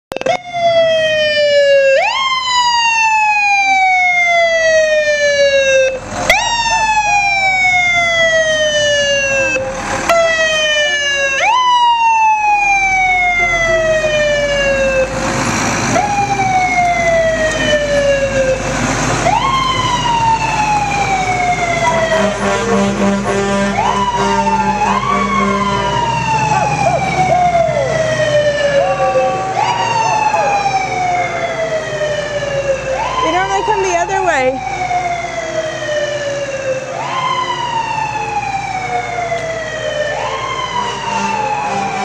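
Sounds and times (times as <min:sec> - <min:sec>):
fire engine siren wailing: 0:00.1 - 0:42.0.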